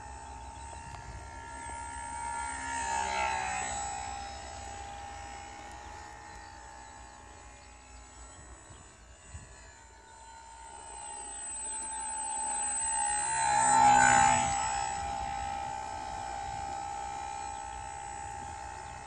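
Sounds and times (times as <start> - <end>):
model airplane motor whine: 0.0 - 19.0.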